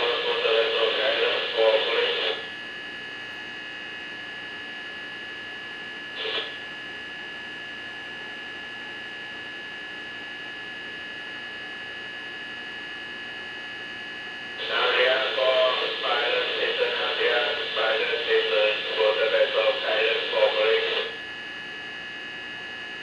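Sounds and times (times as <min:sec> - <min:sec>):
electrical hum and whine: 0:00.0 - 0:23.0.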